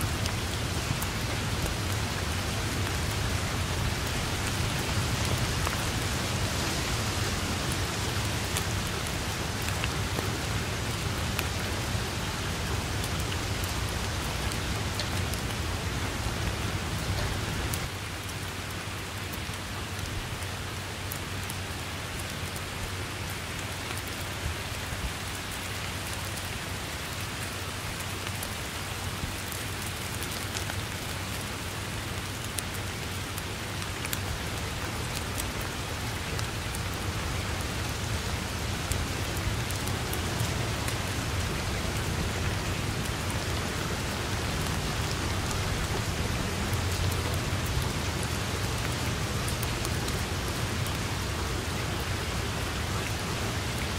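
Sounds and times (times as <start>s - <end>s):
heavy rain on foliage: 0.0s - 53.9s.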